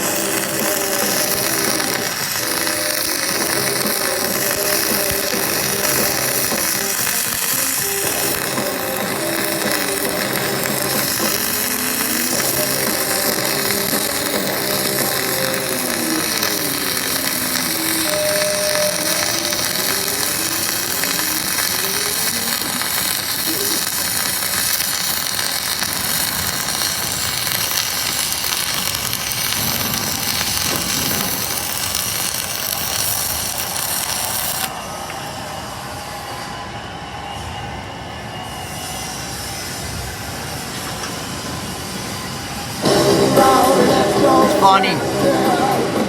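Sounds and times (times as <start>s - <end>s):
crackling welding arc: 0.0s - 35.2s, 39.4s - 46.0s.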